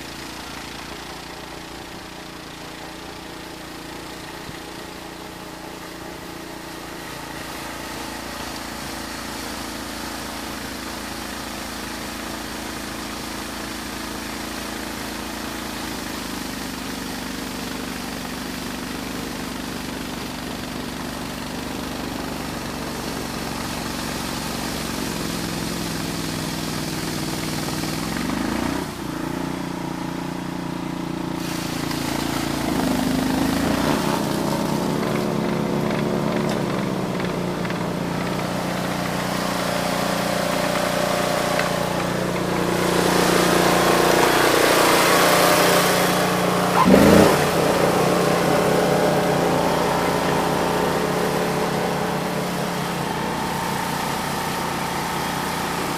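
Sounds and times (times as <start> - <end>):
snow blower engine running: 0.0 - 55.9.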